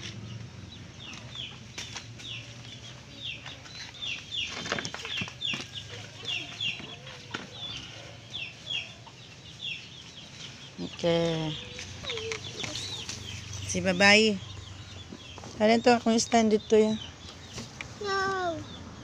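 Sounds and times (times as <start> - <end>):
birds chirping high peeps: 0.1 - 19.0.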